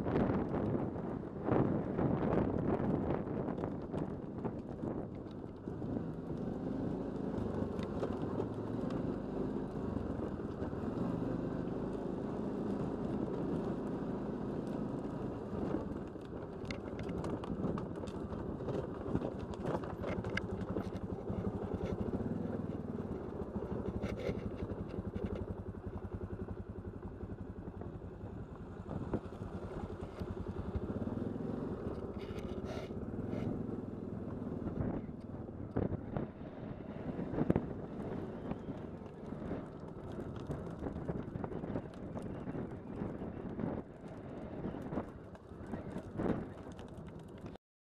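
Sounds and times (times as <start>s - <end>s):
atv engine running: 0.0s - 47.6s
rattles from rough track: 3.6s - 47.6s.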